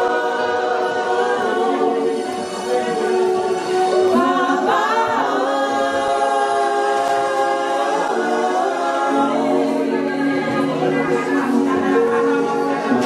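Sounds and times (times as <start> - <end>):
gospel singers a cappella harmony: 0.0 - 13.0.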